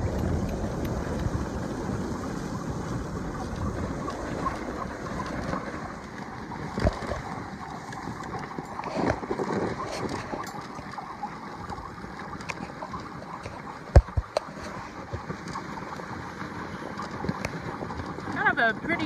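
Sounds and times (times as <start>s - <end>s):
sled runners on snow: 0.0s - 19.0s
wind on microphone: 0.0s - 19.0s.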